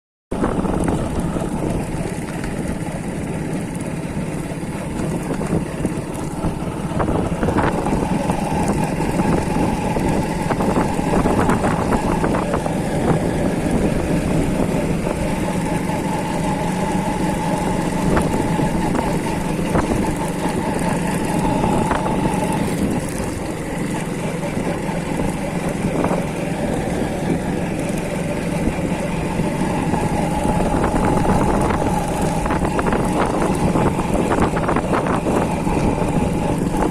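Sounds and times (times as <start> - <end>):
motorcycle engine running: 0.3 - 36.9
road noise: 0.3 - 36.9.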